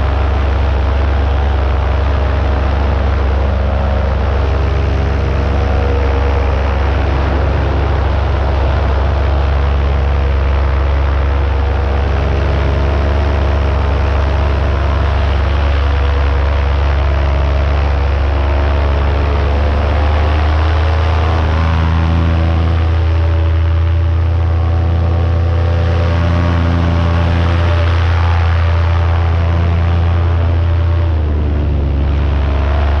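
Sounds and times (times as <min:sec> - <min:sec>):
paramotor engine droning: 0:00.0 - 0:33.0.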